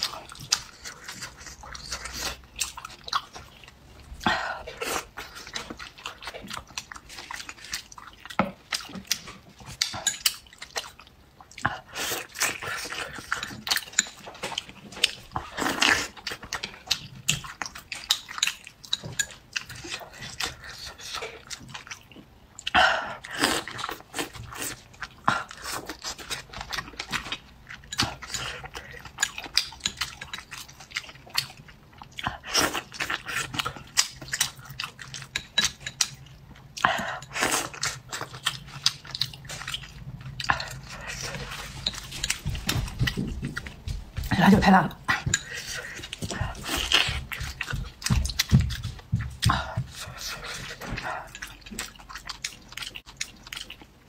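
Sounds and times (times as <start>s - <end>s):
chewing and wet mouth sounds: 0.0s - 54.0s.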